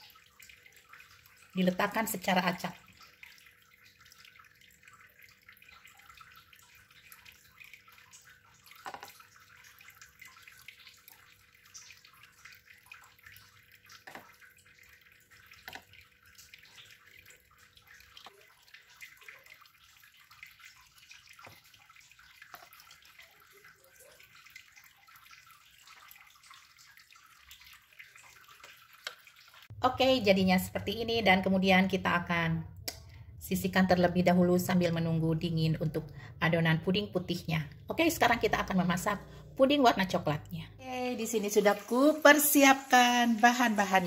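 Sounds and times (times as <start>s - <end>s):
faint drips: 0.0s - 44.0s.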